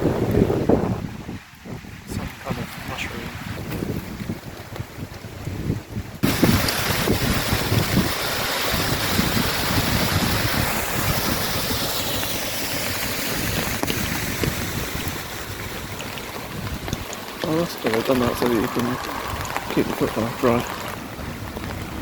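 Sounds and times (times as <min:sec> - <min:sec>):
heavy rain falling: 0:00.0 - 0:22.0
wind gusting on microphone: 0:00.0 - 0:22.0.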